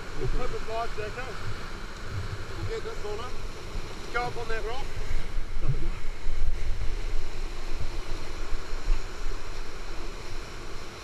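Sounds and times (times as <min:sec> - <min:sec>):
whitewater rapids rushing: 0:00.0 - 0:11.0
wind buffeting microphone: 0:00.0 - 0:11.0.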